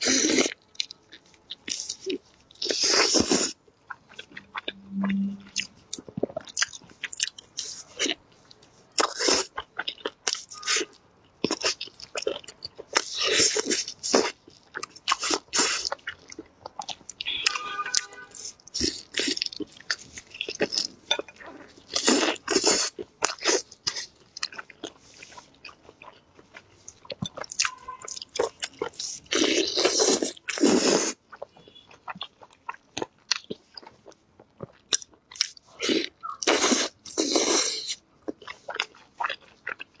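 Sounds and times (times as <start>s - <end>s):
wet chewing and smacking: 0.0s - 40.0s.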